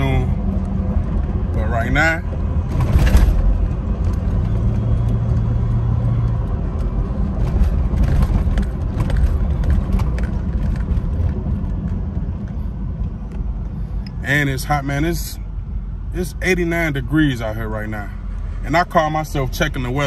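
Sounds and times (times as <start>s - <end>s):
car engine rumble: 0.0s - 20.0s
low engine hum: 0.0s - 20.0s
road noise: 0.0s - 20.0s.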